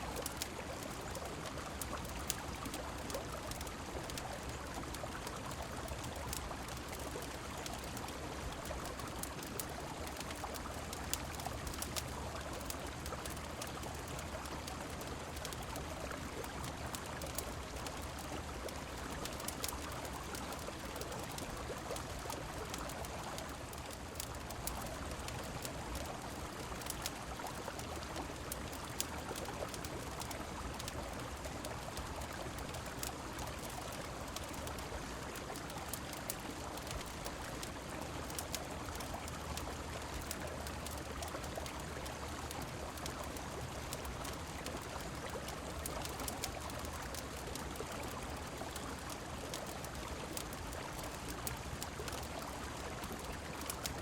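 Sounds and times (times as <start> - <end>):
flowing river water: 0.0 - 54.0
rain: 0.0 - 54.0
wood fire pops and crackles: 0.1 - 54.0.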